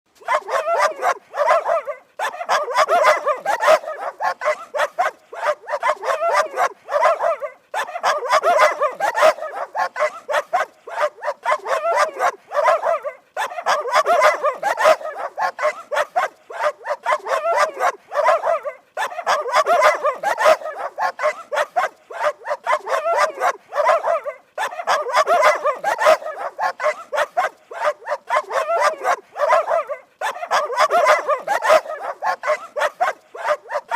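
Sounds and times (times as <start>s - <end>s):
dogs barking aggressively: 0.2s - 33.9s.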